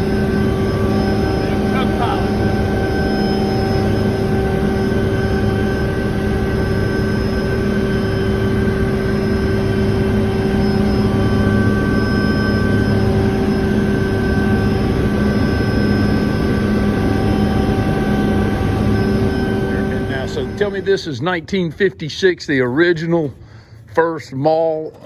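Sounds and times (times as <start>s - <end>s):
helicopter engine and rotors: 0.0s - 25.0s
whine of fixed tones: 0.0s - 25.0s.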